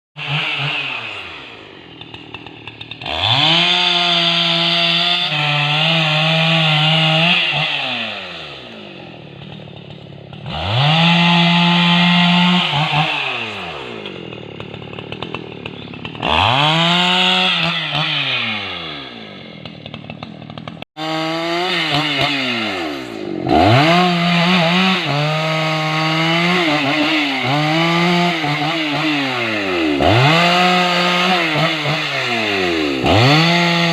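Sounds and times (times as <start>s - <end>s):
chainsaw cutting wood: 0.2s - 33.9s.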